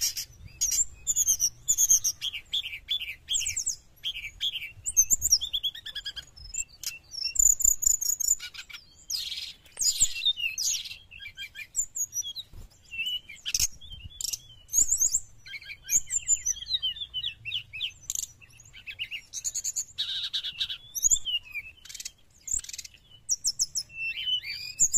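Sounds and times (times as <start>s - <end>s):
bird singing chirps and trills: 0.0s - 24.9s.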